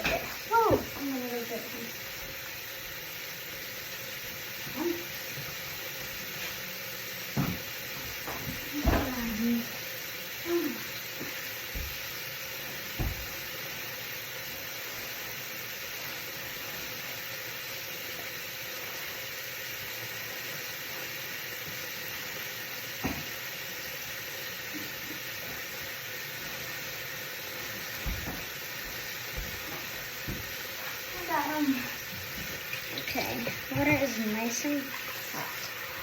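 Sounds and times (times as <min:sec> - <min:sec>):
tap water running into sink: 0:00.0 - 0:36.0.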